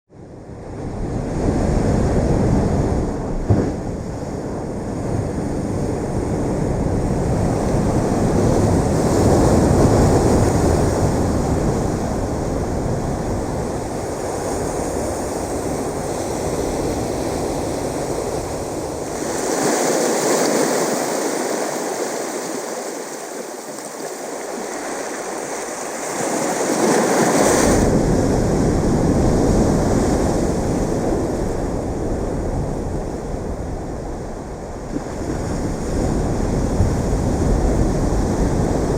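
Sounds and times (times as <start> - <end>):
ocean waves washing ashore: 0.1 - 38.9.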